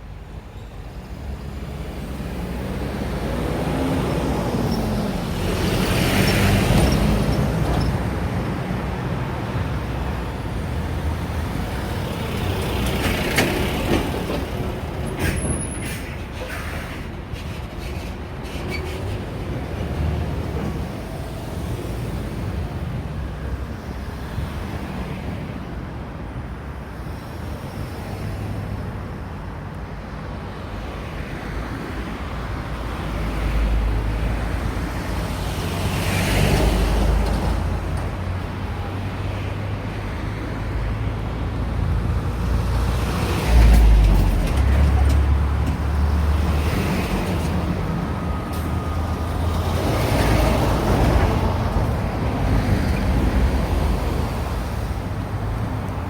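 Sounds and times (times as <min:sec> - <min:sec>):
cars and trucks passing: 0:00.0 - 0:56.0
low traffic rumble: 0:00.0 - 0:56.0.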